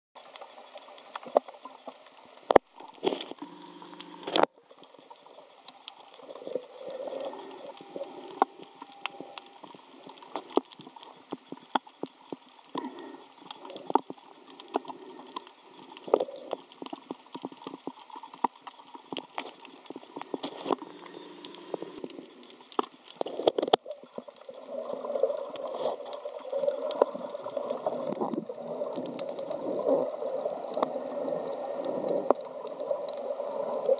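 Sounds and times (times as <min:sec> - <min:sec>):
sharp clicks and crackles: 0:00.2 - 0:33.9
underwater gurgling and sloshing: 0:00.2 - 0:33.9.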